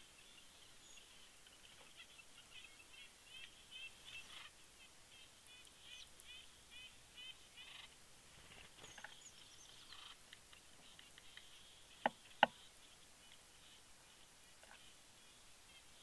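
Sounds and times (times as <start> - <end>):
small bird calling faintly: 0.0 - 16.0.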